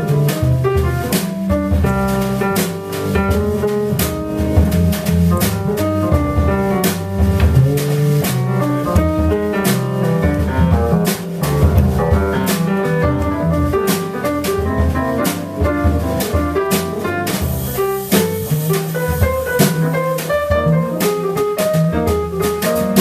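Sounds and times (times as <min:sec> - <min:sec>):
double bass: 0:00.0 - 0:23.0
drum kit with cymbal strikes: 0:00.0 - 0:23.0
jazz piano: 0:00.0 - 0:23.0.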